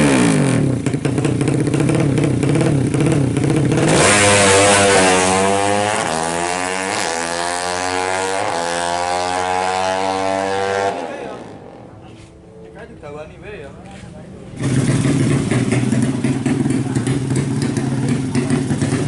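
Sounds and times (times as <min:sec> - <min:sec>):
racing motorcycle engine: 0:00.0 - 0:19.0.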